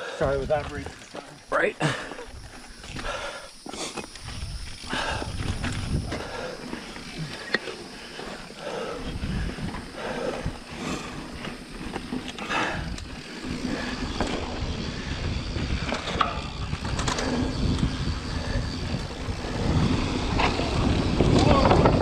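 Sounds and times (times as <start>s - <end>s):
bike tyre noise and rattling: 0.0s - 22.0s
wind on microphone: 4.1s - 22.0s.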